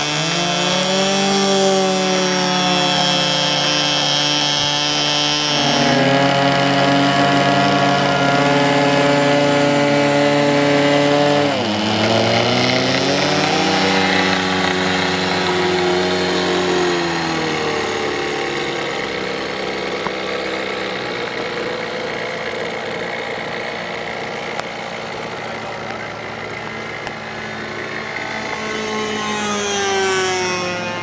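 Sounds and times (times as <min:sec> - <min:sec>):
model airplane engine revving: 0:00.0 - 0:31.0.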